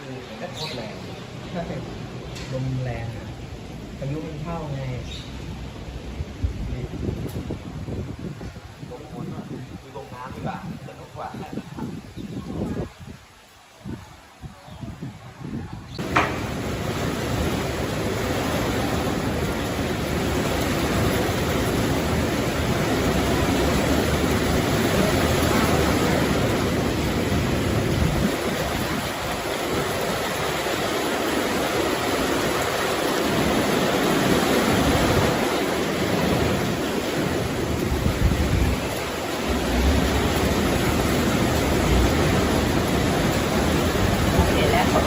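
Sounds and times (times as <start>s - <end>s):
storm wind buffeting microphone: 3.0s - 45.0s.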